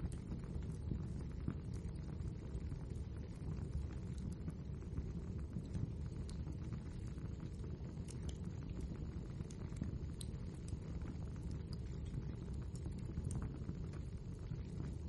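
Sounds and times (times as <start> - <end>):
logs crackling and popping: 0.0 - 15.0
wood fire rumbling: 0.0 - 15.0.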